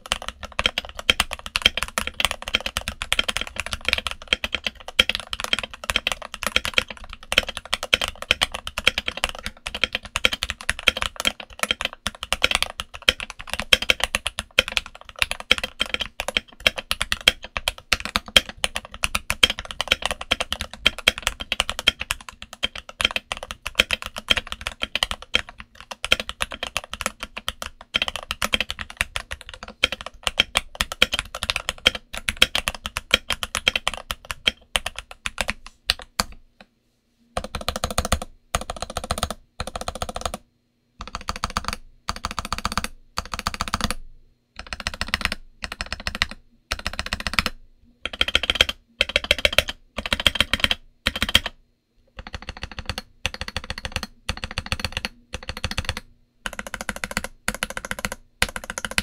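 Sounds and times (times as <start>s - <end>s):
mechanical keyboard typing: 0.0s - 36.4s, 37.4s - 40.4s, 41.0s - 44.0s, 44.6s - 59.0s.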